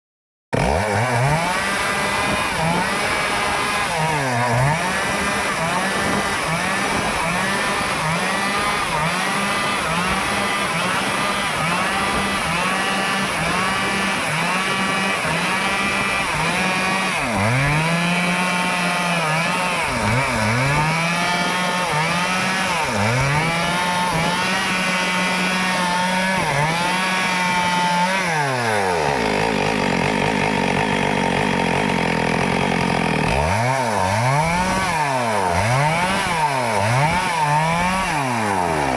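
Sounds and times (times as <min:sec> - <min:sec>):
chainsaw cutting wood: 0:00.5 - 0:38.9.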